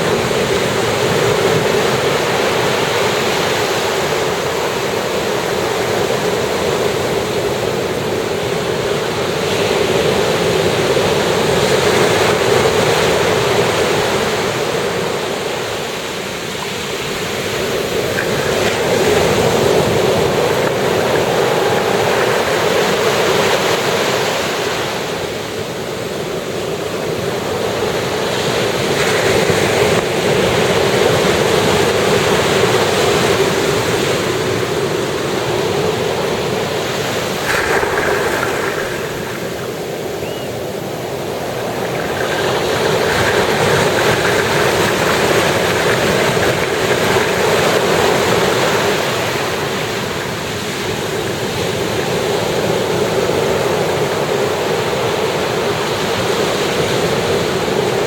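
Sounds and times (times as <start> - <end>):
ocean surf breaking on shore: 0.0 - 58.0.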